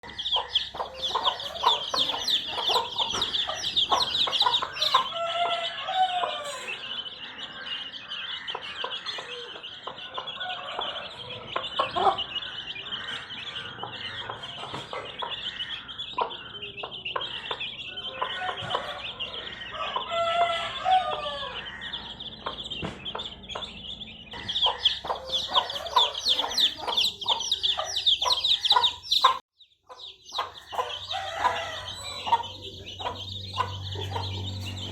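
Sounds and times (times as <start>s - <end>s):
hen clucking: 0.0s - 7.5s, 8.5s - 34.9s
baby chicks peeping: 0.0s - 34.9s.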